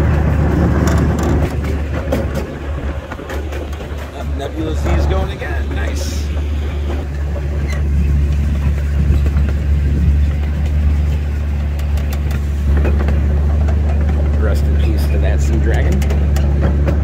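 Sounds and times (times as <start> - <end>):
miniature train engine drone: 0.0 - 17.0.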